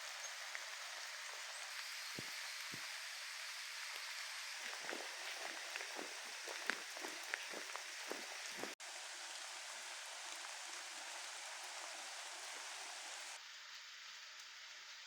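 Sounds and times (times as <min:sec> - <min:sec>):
raindrops landing close by: 0:00.0 - 0:15.0
steady hiss of rain: 0:00.0 - 0:15.0.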